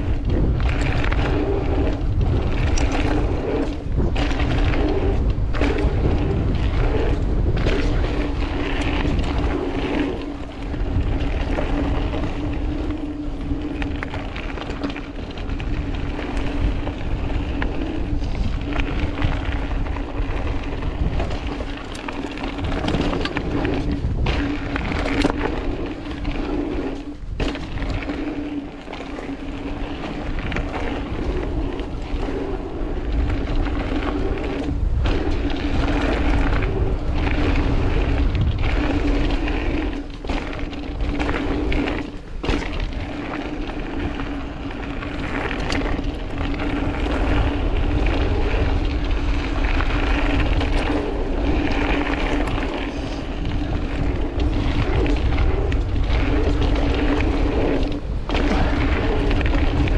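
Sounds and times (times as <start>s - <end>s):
bike knocking and rattling: 0.0s - 59.9s
bike tyres rumbling on dirt: 0.0s - 59.9s
wind rush: 0.0s - 59.9s.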